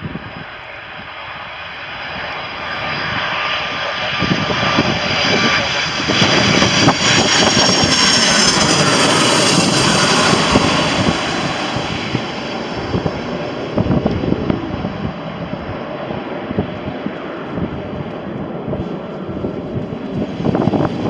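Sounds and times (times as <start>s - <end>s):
high engine whine: 0.0s - 21.0s
jet engines roaring: 0.0s - 21.0s.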